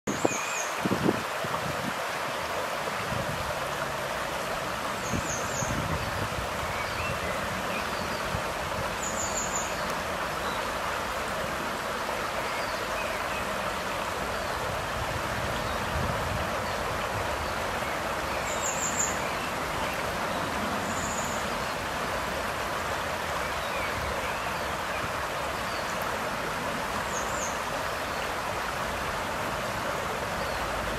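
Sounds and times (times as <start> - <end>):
river water over rocks: 0.1 - 30.9.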